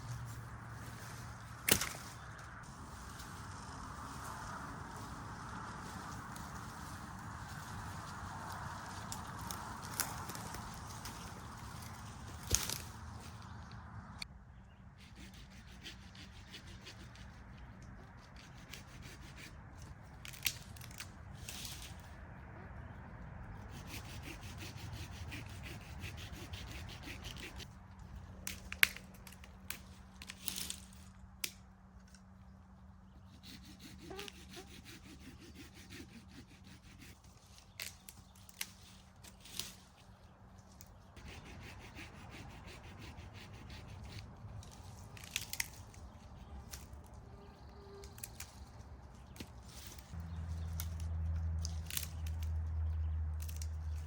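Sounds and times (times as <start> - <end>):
low steady rumble: 0.0 - 34.1, 38.5 - 54.0.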